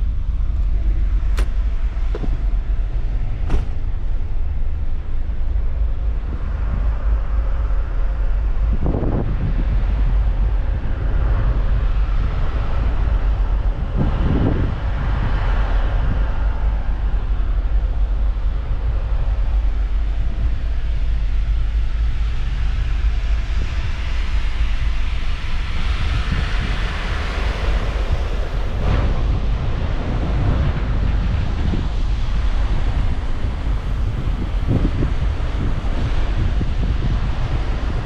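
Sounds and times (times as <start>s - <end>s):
low engine rumble: 0.0s - 38.0s
wind buffeting microphone: 0.0s - 38.0s.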